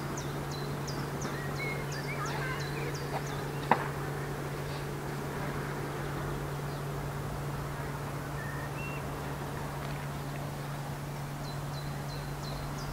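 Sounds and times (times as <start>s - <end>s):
constant low hum: 0.0s - 12.9s.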